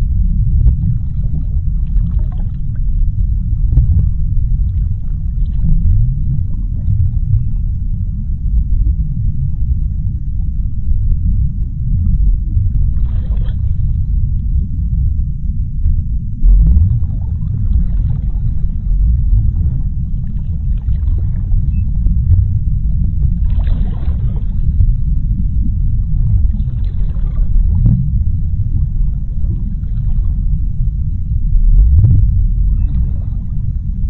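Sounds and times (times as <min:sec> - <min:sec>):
low underwater rumble: 0:00.0 - 0:34.0.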